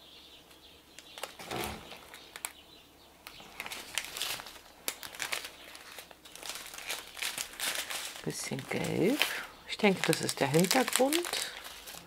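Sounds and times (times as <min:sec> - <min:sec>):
plastic packaging crinkling: 0:01.0 - 0:02.6, 0:03.2 - 0:12.0.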